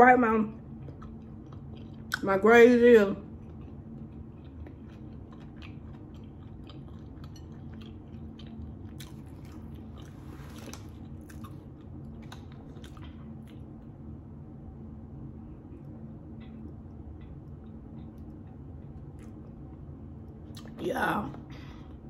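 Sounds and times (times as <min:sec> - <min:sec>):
chewing with wet clicks: 0:00.5 - 0:02.5, 0:03.2 - 0:14.2, 0:15.7 - 0:20.8.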